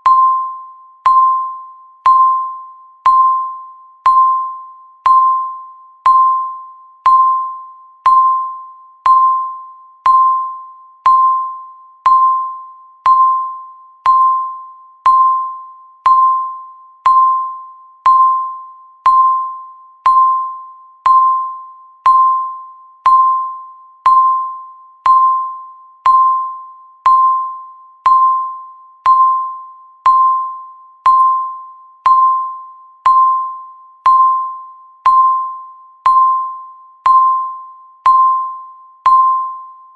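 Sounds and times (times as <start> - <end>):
countdown timer beeping: 0.0 - 39.8.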